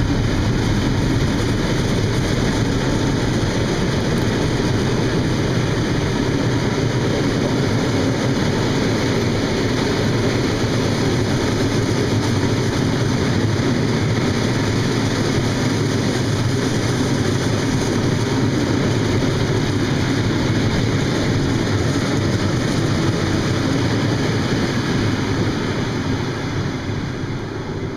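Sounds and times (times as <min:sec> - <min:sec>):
freight train rumbling on rails: 0:00.0 - 0:27.9.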